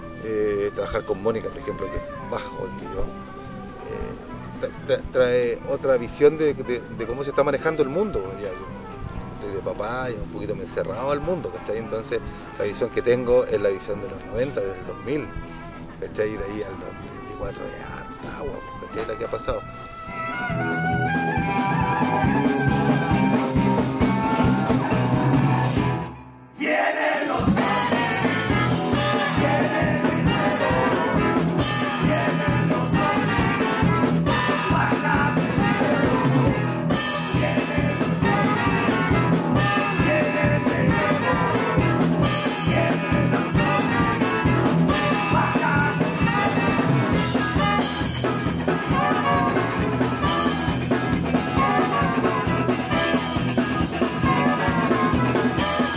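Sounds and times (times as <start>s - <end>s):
band music with steady beat: 0.0s - 26.2s, 27.2s - 55.9s.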